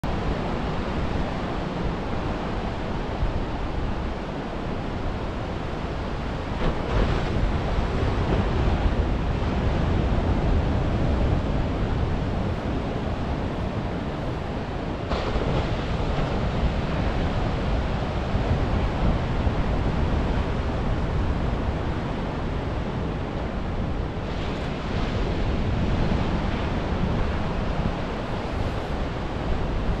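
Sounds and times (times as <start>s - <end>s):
ocean surf breaking: 0.1s - 30.0s.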